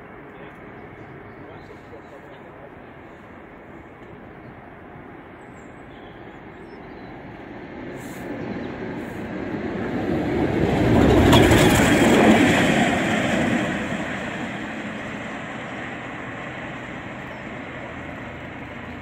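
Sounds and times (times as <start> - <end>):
diesel locomotive passing: 0.0 - 19.0.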